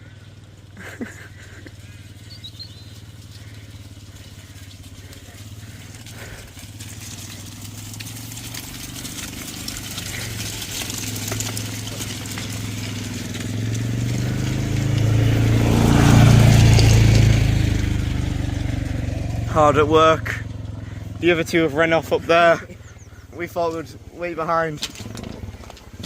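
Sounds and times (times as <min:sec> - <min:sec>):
vehicle engine hum: 0:00.0 - 0:26.0.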